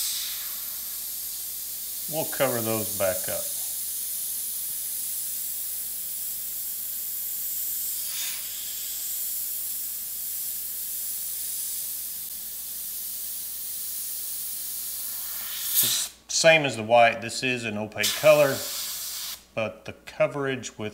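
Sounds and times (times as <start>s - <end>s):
airbrush hissing: 0.0s - 16.3s, 18.0s - 19.5s.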